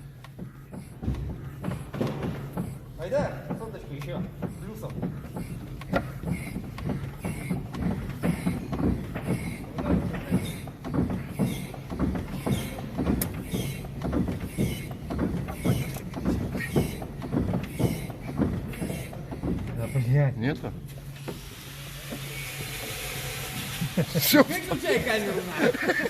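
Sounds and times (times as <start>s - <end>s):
truck cab rocking thump and creak: 0.0s - 21.5s
steady low hum: 0.0s - 26.0s.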